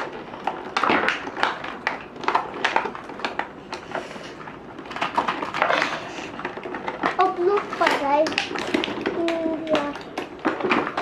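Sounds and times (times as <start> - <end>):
plastic and cardboard packaging crinkling: 0.0 - 11.0.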